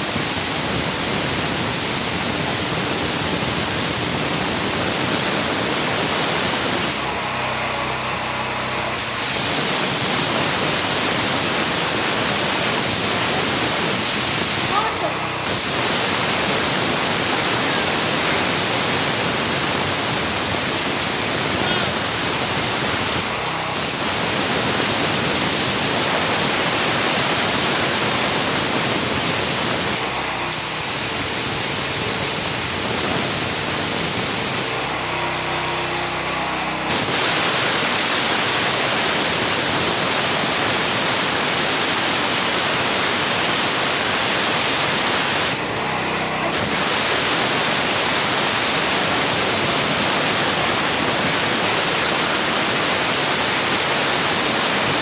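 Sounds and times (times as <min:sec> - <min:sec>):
pressure washer spraying: 0:00.0 - 0:55.0.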